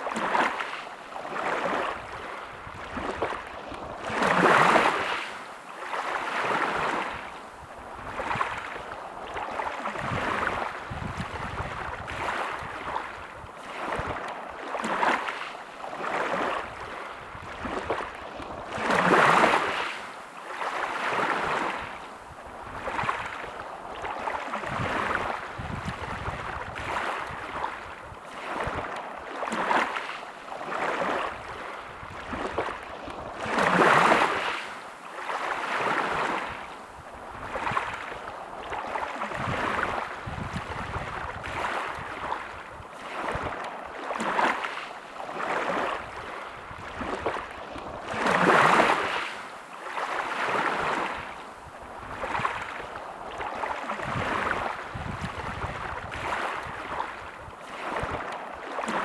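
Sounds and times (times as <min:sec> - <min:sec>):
larger waves breaking: 0:00.0 - 0:59.0
small sea waves washing: 0:00.0 - 0:59.0.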